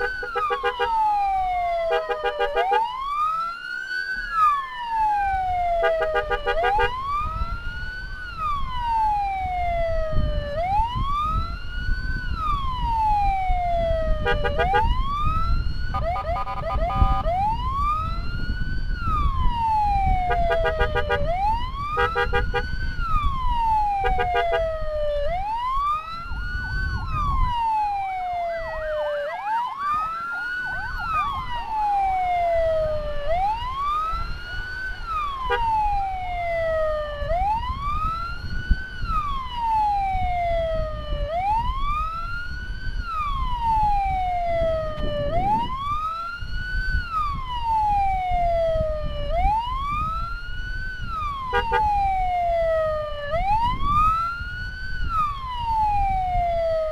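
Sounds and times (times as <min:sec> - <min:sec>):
electronic wail siren: 0:00.0 - 0:56.9
engine and road rumble: 0:00.0 - 0:56.9.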